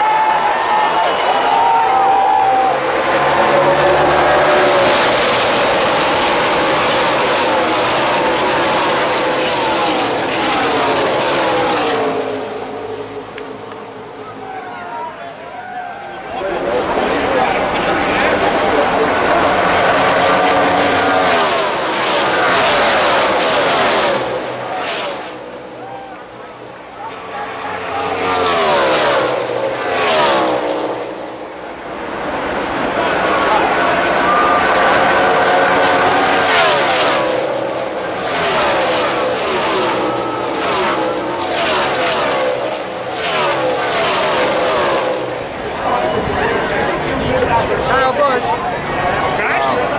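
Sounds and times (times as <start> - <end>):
race cars passing at speed: 0.0 - 49.9.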